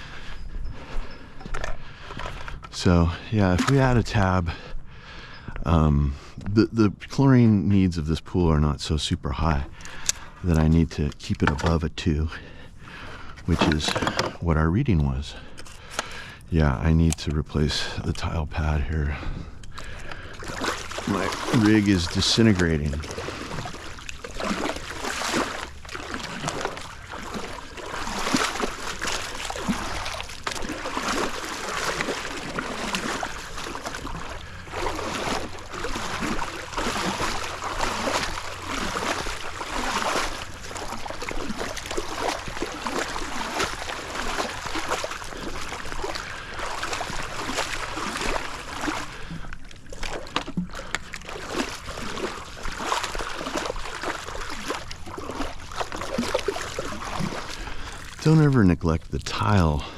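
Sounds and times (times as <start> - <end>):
water sloshing and splashing: 0.0 - 59.9.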